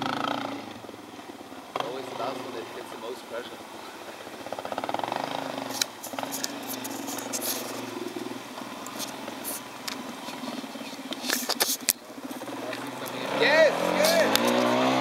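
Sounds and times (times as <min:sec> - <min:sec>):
dirt bike engine running hard: 0:00.0 - 0:15.0.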